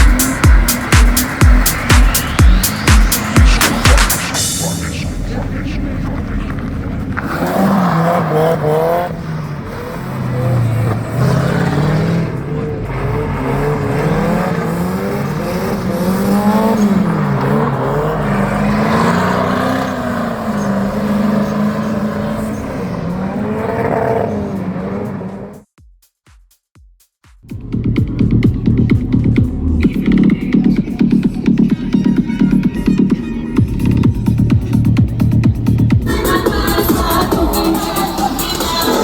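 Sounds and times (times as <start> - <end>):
car engine revving: 0.0 - 25.6, 27.5 - 39.0.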